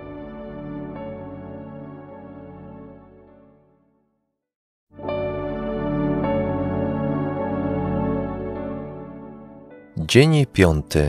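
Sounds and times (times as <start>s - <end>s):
ambient new-age music: 0.0s - 4.0s, 5.0s - 11.0s.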